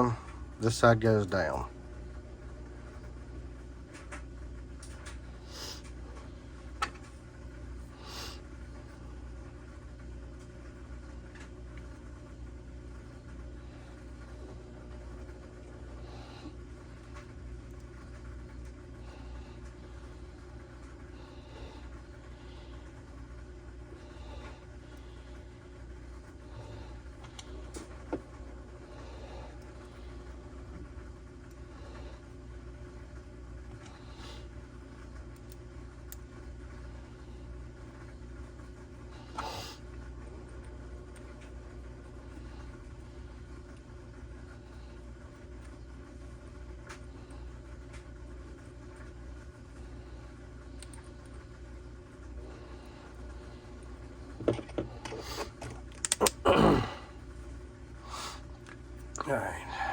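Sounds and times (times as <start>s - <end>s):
workshop hum: 0.0s - 59.9s.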